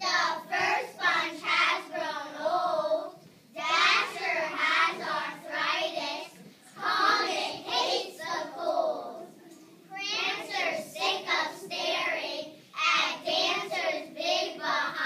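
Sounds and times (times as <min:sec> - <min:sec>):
children chanting in unison: 0:00.0 - 0:09.3, 0:10.0 - 0:15.0.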